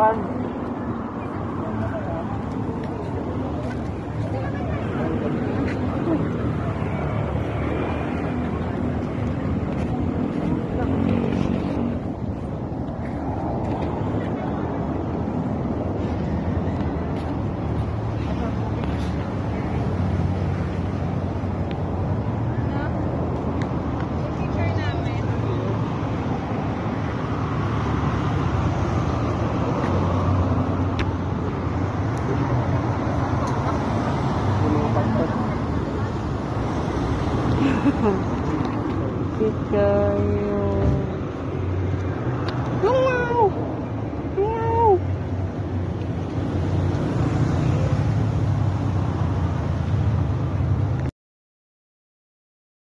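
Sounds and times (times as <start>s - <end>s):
city street traffic: 0.0s - 51.1s.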